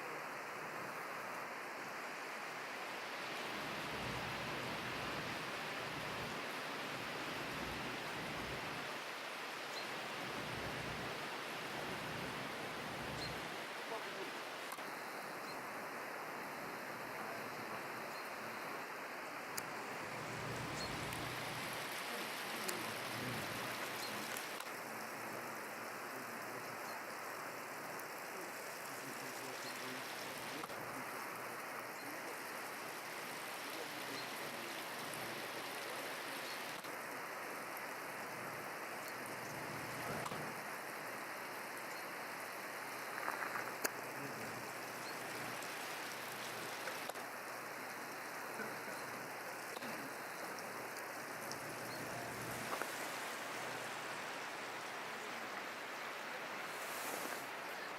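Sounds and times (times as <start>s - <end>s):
waterfall spray hissing: 0.0s - 57.9s.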